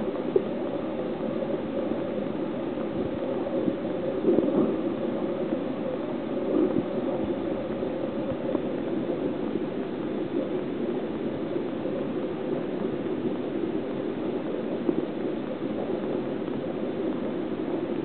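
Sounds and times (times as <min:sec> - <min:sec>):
water rushing and gurgling: 0:00.0 - 0:18.0.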